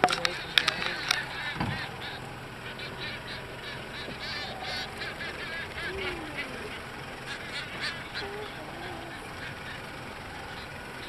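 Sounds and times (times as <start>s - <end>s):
seabirds honking calls: 0.0s - 11.0s.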